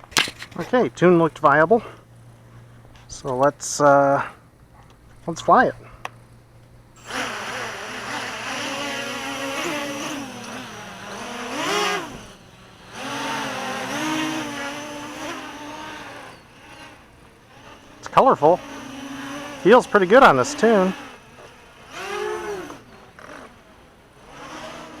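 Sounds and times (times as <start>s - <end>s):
quadcopter propellers whining: 0.0s - 25.0s.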